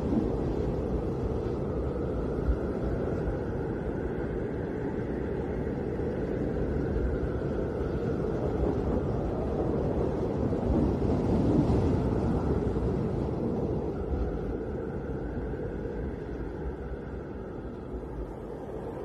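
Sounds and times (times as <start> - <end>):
snowstorm wind blowing: 0.0 - 19.0.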